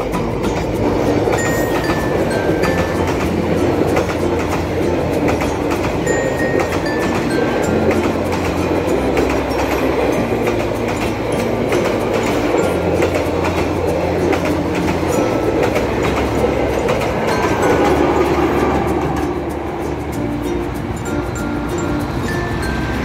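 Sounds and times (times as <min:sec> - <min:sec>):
clickety-clack of rail joints: 0:00.0 - 0:23.0
train wheels rumbling on rails: 0:00.0 - 0:23.0.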